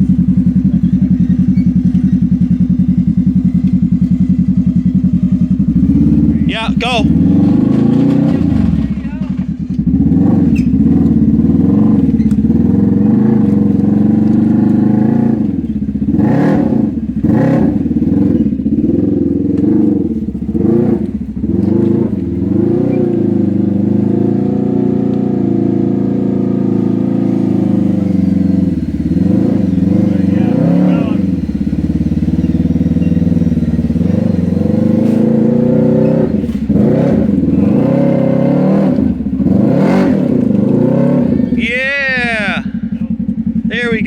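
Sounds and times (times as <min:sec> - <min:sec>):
vehicle engine revving under load: 0:00.0 - 0:44.0.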